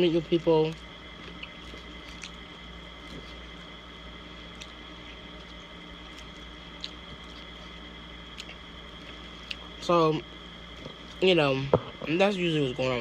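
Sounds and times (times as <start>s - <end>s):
faint high whine: 0.0s - 13.0s
quiet chewing: 0.2s - 11.4s.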